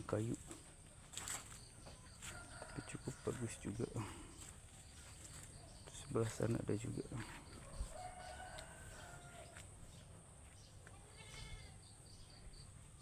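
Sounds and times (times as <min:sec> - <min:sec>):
faint farm animal calls: 0:00.1 - 0:13.0.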